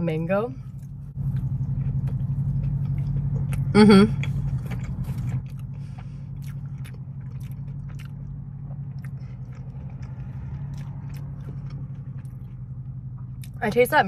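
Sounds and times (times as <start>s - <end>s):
steady low hum: 0.0s - 14.0s
chewing with wet mouth clicks: 0.8s - 13.6s.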